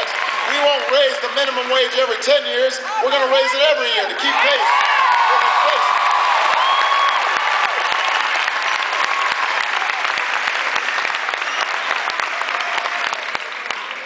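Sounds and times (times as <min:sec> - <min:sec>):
crowd cheering: 0:00.0 - 0:14.0
crowd clapping: 0:00.0 - 0:14.0.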